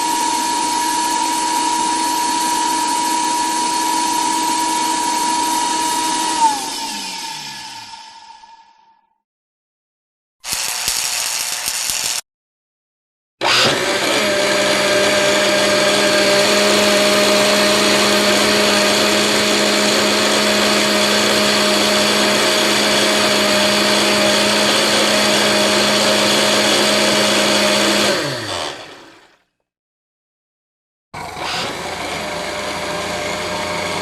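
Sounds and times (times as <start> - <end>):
blender motor whirring: 0.0 - 8.7, 10.4 - 12.2, 13.4 - 29.4, 31.2 - 34.0.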